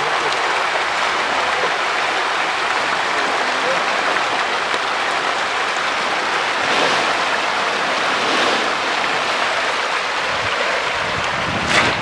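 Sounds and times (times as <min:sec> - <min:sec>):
fish splashing in water: 0:01.1 - 0:10.9.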